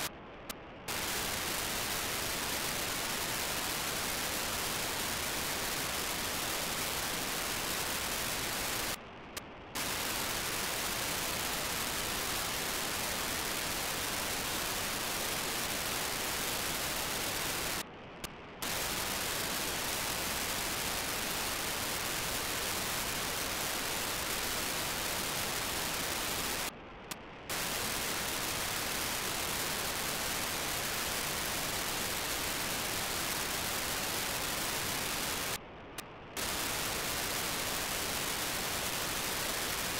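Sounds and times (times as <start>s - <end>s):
radio receiver hiss: 0.0s - 39.9s
short data bursts: 0.9s - 9.0s, 9.8s - 17.8s, 18.6s - 26.7s, 27.5s - 35.6s, 36.4s - 39.9s.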